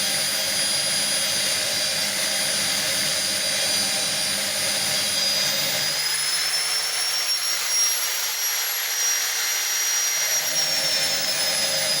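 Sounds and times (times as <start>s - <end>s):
electric grinder whining: 0.0s - 12.0s.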